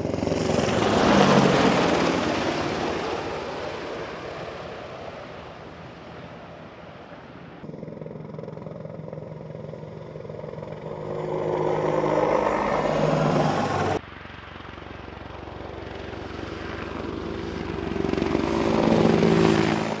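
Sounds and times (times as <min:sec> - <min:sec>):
helicopter rotor chop: 0:00.0 - 0:06.8, 0:07.6 - 0:20.0
helicopter turbine whine: 0:00.0 - 0:20.0.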